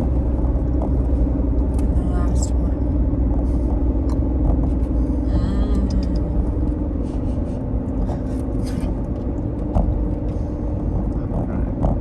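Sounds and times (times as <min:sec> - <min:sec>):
car idling from inside cabin: 0:00.0 - 0:12.0.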